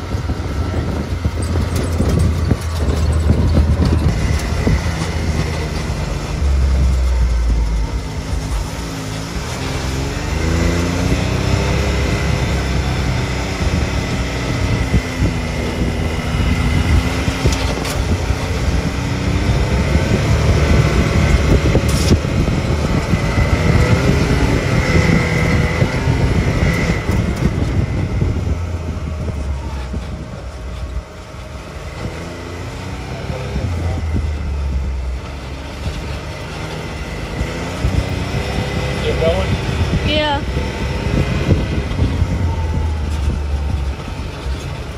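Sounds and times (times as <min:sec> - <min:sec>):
utility vehicle engine revving: 0:00.0 - 0:44.9
vehicle rumble and rattle: 0:00.0 - 0:44.9.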